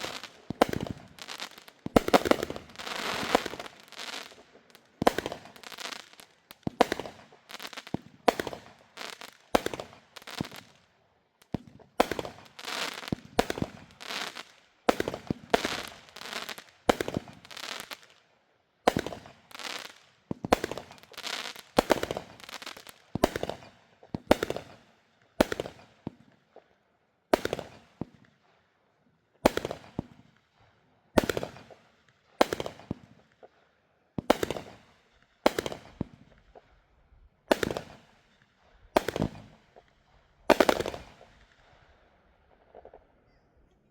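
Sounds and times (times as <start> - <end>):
fireworks banging and crackling: 0.0 - 18.2, 18.9 - 26.7, 27.4 - 28.4, 29.4 - 30.5, 31.2 - 33.6, 34.2 - 36.8, 37.5 - 41.8.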